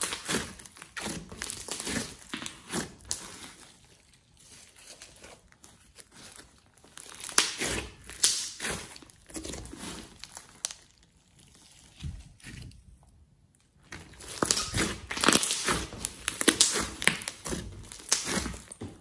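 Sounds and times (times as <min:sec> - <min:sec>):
slime squishing and popping: 0:00.0 - 0:12.8, 0:13.7 - 0:19.0.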